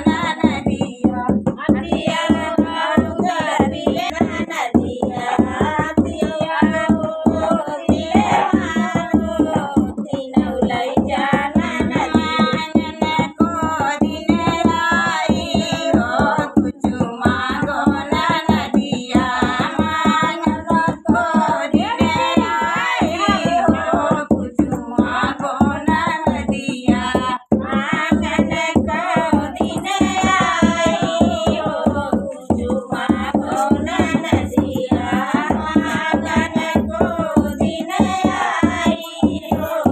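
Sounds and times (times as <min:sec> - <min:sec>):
hand drum beat: 0:00.0 - 0:39.9
woman singing folk song: 0:00.0 - 0:39.9.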